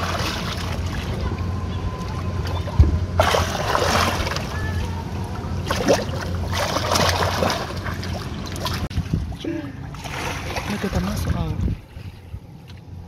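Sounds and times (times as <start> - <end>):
water splashing against boat: 0.0 - 12.9
steady low hum: 0.0 - 13.0.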